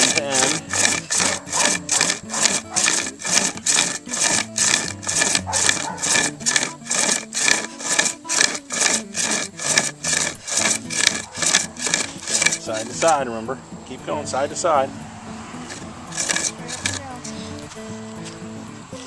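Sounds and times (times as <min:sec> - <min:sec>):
pocket chainsaw rasping through wood: 0:00.0 - 0:19.0.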